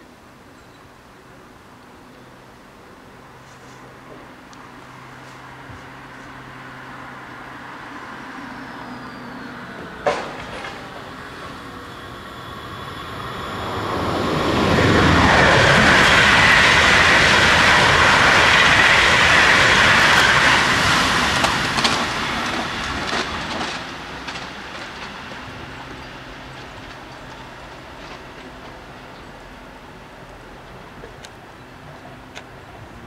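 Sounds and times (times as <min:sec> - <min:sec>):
train wheels rushing on rail: 0:03.4 - 0:33.0.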